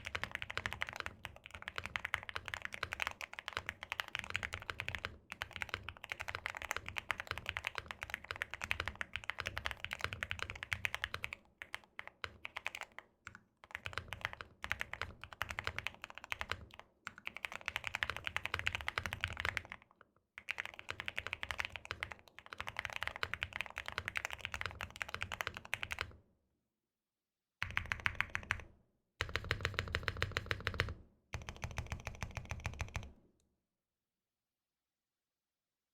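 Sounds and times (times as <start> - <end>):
mechanical keyboard typing: 0.0 - 13.0, 13.6 - 26.1, 27.6 - 33.1.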